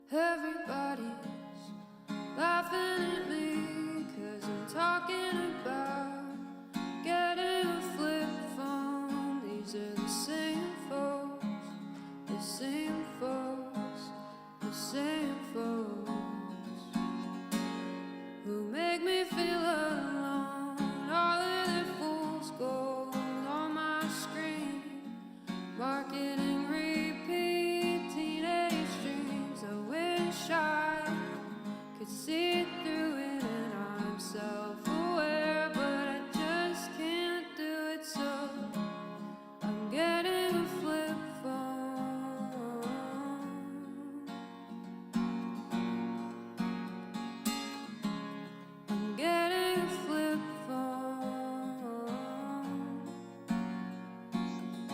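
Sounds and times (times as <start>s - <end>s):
person singing: 0.0s - 16.9s, 18.4s - 39.0s, 39.7s - 44.5s, 49.0s - 53.3s
acoustic guitar: 0.0s - 54.9s.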